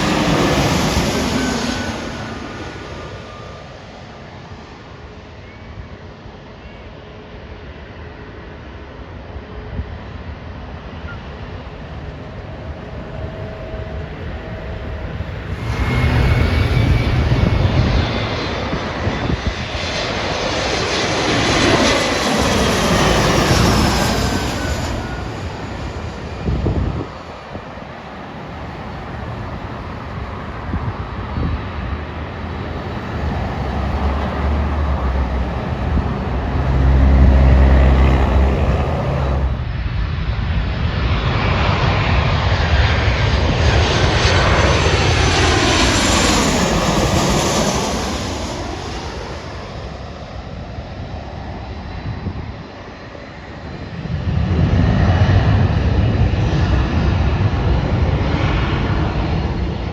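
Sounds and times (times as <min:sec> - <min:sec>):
jet airliner engines roaring: 0:00.0 - 0:59.9.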